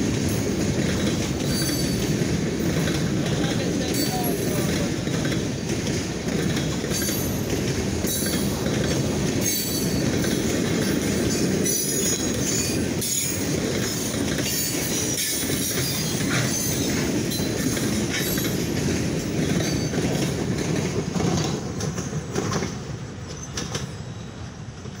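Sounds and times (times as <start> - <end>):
train wheels knocking and clacking: 0.0 - 24.0
freight train rumbling past: 0.0 - 25.0.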